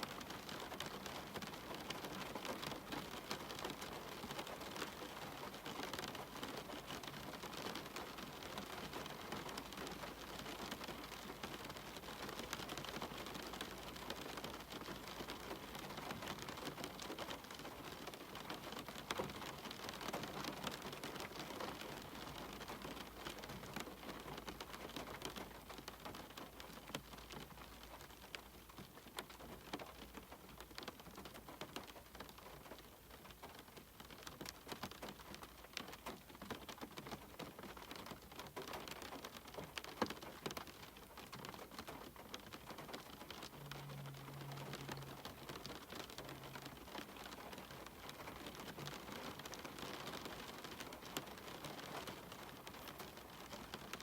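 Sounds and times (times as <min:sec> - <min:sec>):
rain tapping on a window: 0:00.0 - 0:54.0.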